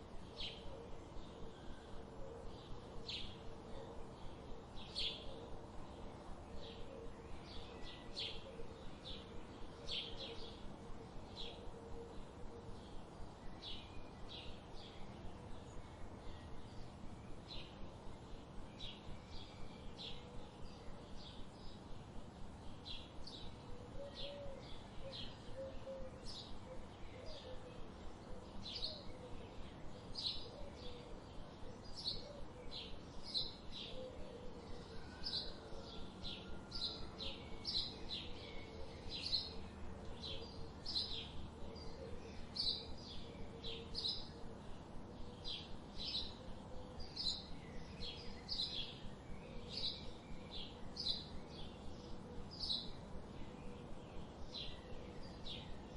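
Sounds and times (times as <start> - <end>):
light outdoor background noise: 0.0 - 55.9
bird chirping: 0.2 - 55.9.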